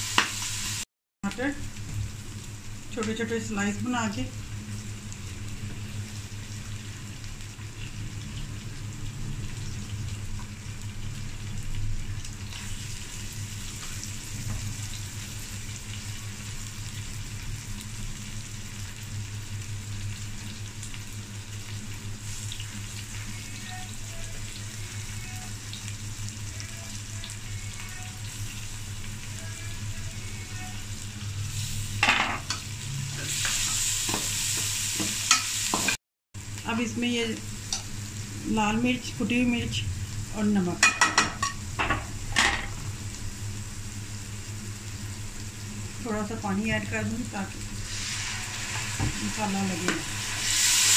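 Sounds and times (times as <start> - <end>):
onions sizzling in pot: 0.0 - 50.9.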